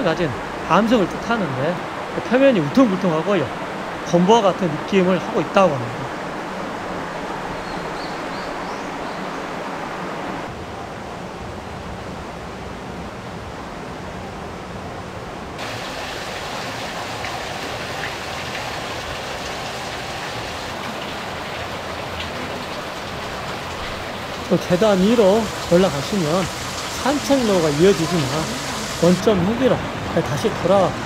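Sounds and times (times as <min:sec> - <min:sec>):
stream rushing over rocks: 0:00.0 - 0:10.6, 0:15.6 - 0:31.0.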